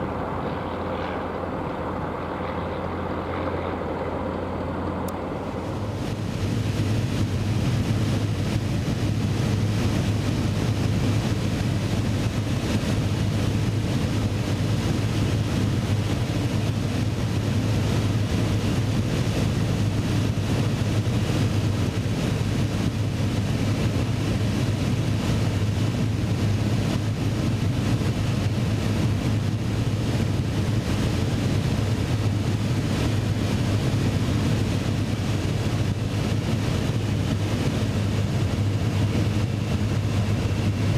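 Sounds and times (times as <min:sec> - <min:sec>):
propeller aircraft engine droning: 0:00.0 - 0:40.9
wind noise rushing: 0:00.0 - 0:40.9.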